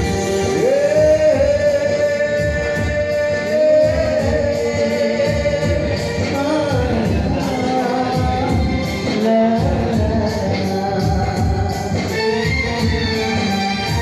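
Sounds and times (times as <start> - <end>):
backing music with steady beat: 0.0 - 14.0
person singing into a microphone: 0.0 - 14.0.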